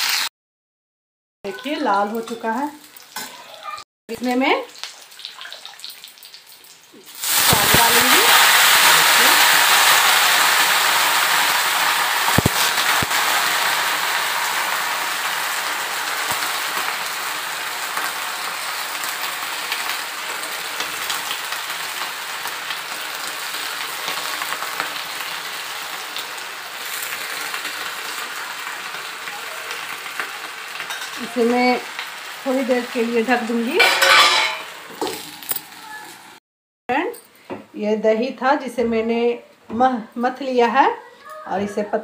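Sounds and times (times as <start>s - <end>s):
leaves sizzling in hot oil: 0.0s - 0.3s, 1.6s - 36.4s.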